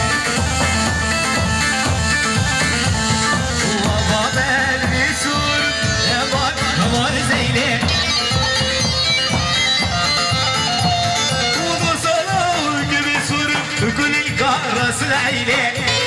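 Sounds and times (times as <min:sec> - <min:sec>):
folk dance melody: 0:00.0 - 0:16.0
steady drum beat: 0:00.0 - 0:16.0.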